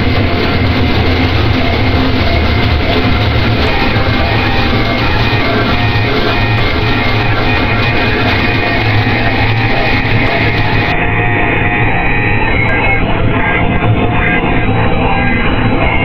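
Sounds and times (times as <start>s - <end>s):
distorted noise music: 0.0s - 16.0s.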